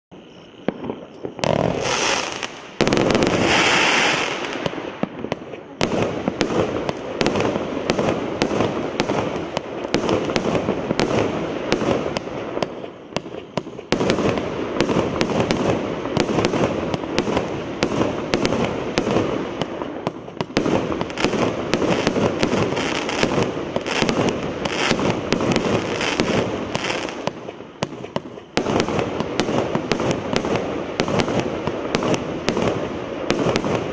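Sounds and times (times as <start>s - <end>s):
firework launch pops and bangs: 0.6s - 33.9s
firework hissing bursts: 0.7s - 5.2s, 6.0s - 33.9s.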